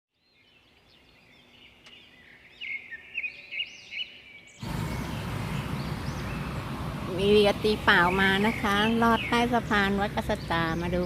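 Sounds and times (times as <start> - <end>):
small birds chirping: 0.1 - 11.0
low outdoor noise: 0.2 - 11.0.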